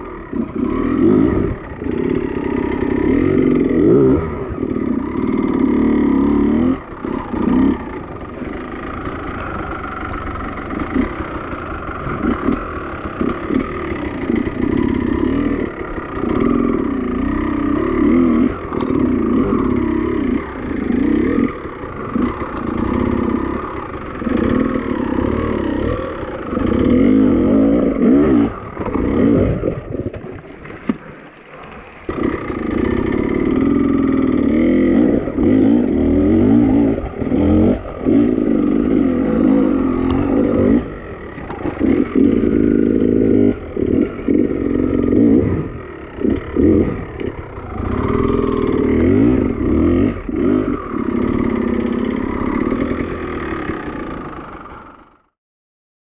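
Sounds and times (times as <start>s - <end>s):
motorcycle engine revving: 0.0s - 55.4s.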